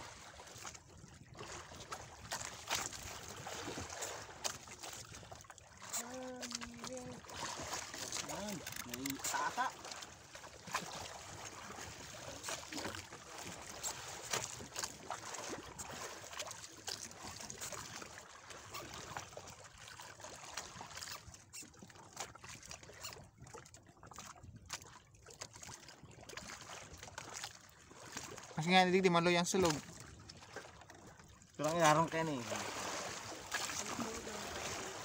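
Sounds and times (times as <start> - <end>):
small water splashes: 0.0 - 35.0
water lapping against boat hull: 0.0 - 35.0.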